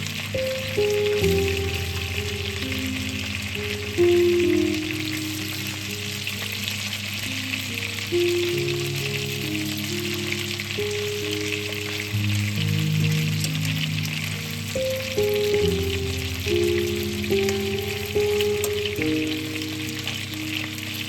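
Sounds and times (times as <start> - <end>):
food sizzling in a pan: 0.0 - 21.0
music of slow held notes: 0.0 - 21.0.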